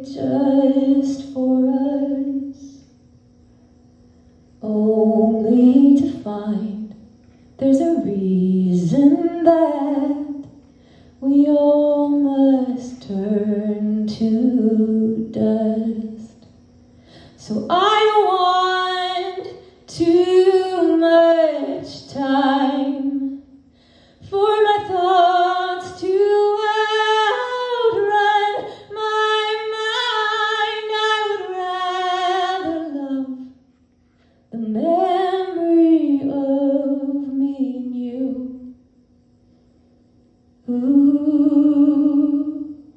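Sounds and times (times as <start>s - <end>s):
woman singing a cappella: 0.0s - 2.9s, 4.6s - 10.6s, 11.2s - 16.6s, 17.3s - 23.6s, 24.2s - 33.6s, 34.5s - 38.8s, 40.6s - 42.9s.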